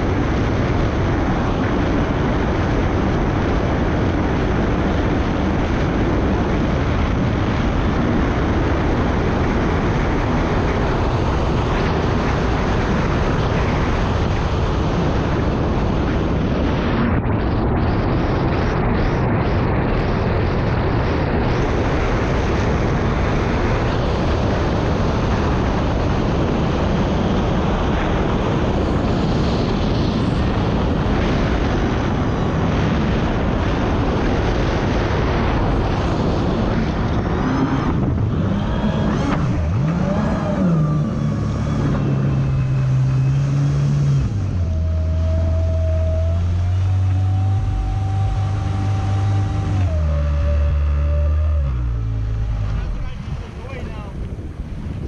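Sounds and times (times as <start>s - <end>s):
personal watercraft engine: 0.0s - 55.0s
wind and spray rushing: 0.0s - 55.0s.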